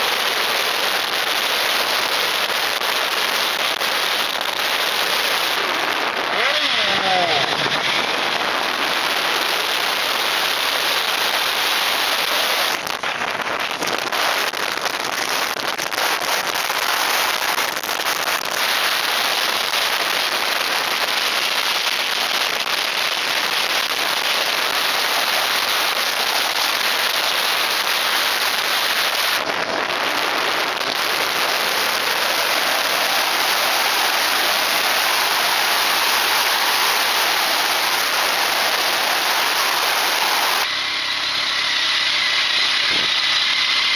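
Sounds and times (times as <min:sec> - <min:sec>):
wind noise on microphone: 0:02.1 - 0:40.6, 0:42.8 - 0:43.2.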